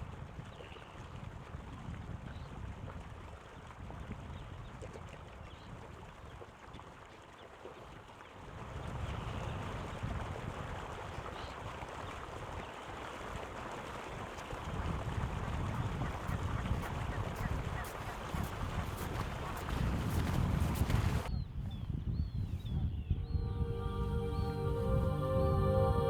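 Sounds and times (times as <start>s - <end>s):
wind rumbling on microphone: 0.0s - 6.8s, 8.4s - 26.0s.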